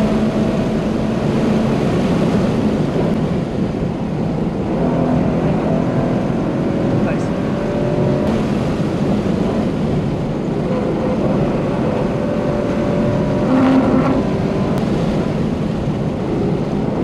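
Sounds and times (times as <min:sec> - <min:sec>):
car engine pulling at high revs: 0:00.0 - 0:17.0.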